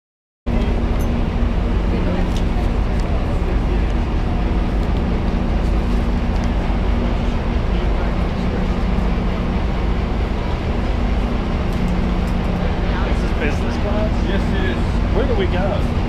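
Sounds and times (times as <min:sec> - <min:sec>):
idling train hum: 0:00.5 - 0:16.0.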